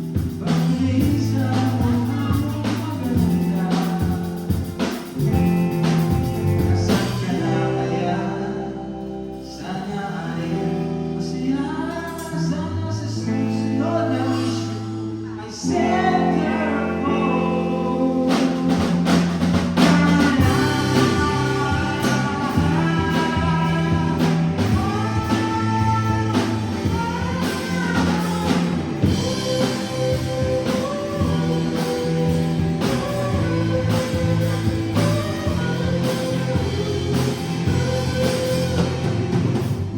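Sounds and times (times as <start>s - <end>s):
drums: 0.0s - 15.2s, 15.8s - 39.9s
bass notes: 0.0s - 39.9s
guitar: 0.0s - 39.9s
person singing: 0.0s - 39.9s.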